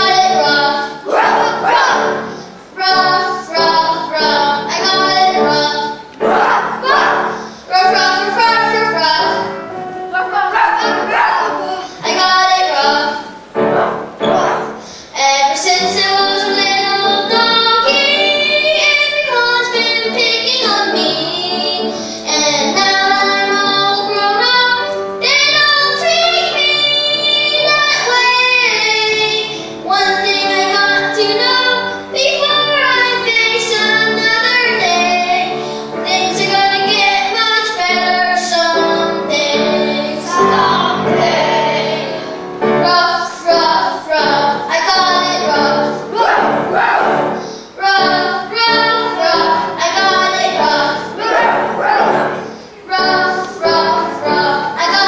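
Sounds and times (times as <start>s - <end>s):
child singing: 0.0s - 13.4s, 14.2s - 55.0s
musical accompaniment: 0.0s - 55.0s.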